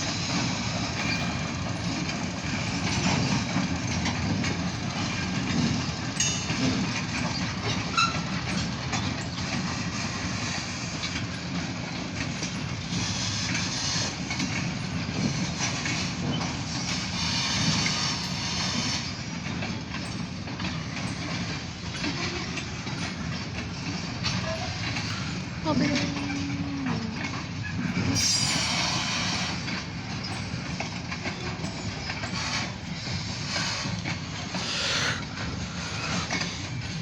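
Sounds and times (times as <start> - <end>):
freight train wheels rumbling: 0.0 - 37.0.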